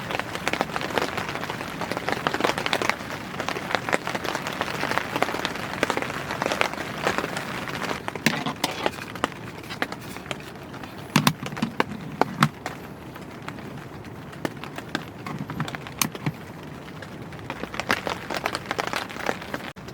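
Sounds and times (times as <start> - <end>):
heavy rain falling: 0.0 - 19.9.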